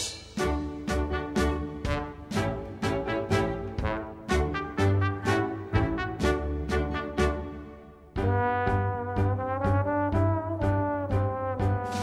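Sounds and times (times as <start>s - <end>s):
instrumental melody with low bass: 0.4s - 12.0s.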